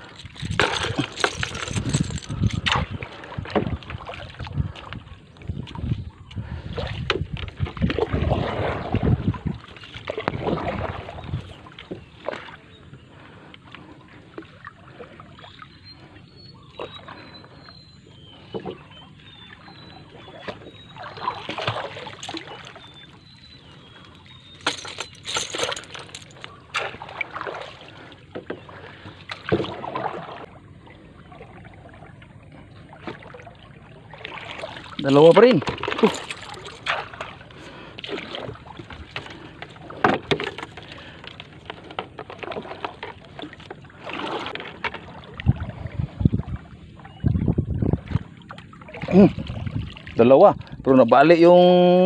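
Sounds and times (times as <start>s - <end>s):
water sloshing along hull: 0.0s - 52.0s
paddle splashing strokes: 6.6s - 17.6s, 18.3s - 51.3s.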